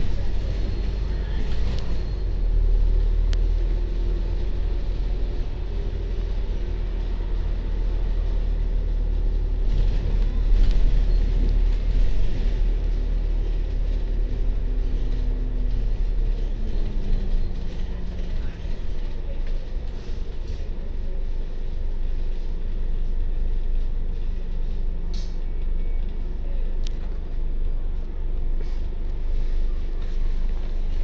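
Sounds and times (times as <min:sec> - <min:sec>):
bus engine rumble: 0:00.0 - 0:31.0.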